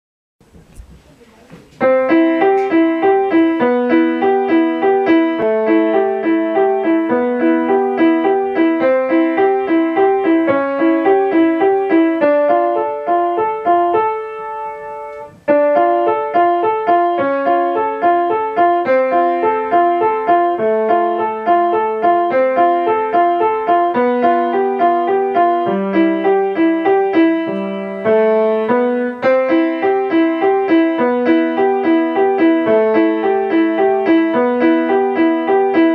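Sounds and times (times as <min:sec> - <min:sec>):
grand piano playing: 0:01.8 - 0:35.9.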